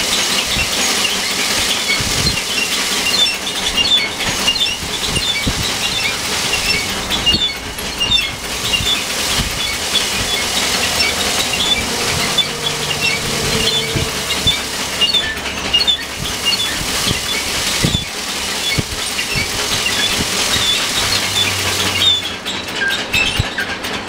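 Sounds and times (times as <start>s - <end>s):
grain thresher running: 0.0s - 24.0s.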